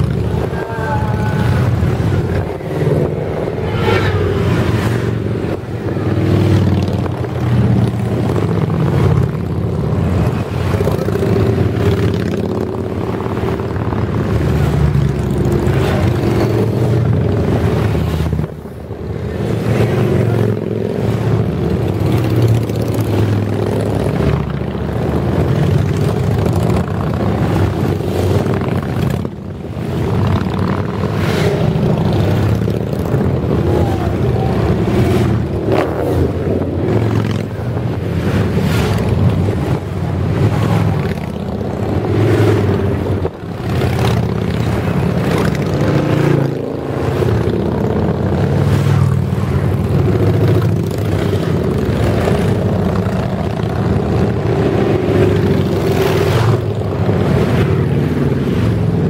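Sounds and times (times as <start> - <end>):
motorcycles riding past: 0.0 - 59.0.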